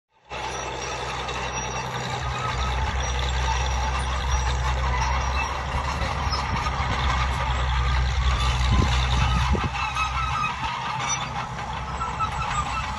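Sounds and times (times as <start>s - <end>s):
tractor diesel engine under load: 0.1s - 12.9s.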